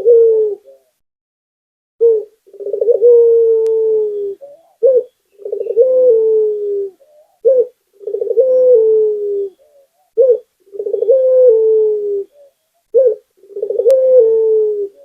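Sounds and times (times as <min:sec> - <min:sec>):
dove cooing: 0:00.0 - 0:01.0, 0:02.0 - 0:15.0.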